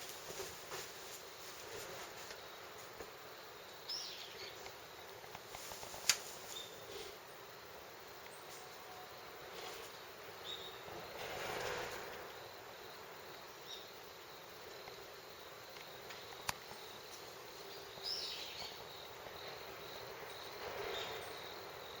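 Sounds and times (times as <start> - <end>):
faint insect sound: 0.0 - 22.0.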